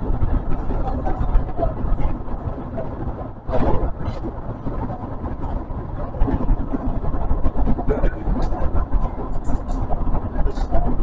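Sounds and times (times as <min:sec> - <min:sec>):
train clicks and clatter: 0:00.0 - 0:11.0
train wheels rumbling on rail: 0:00.0 - 0:11.0.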